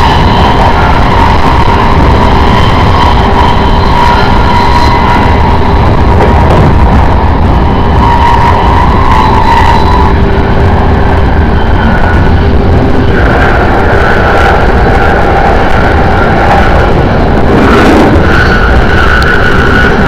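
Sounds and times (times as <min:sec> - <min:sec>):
faint whining tones: 0:00.0 - 0:20.0
train rumbling on track: 0:00.0 - 0:20.0.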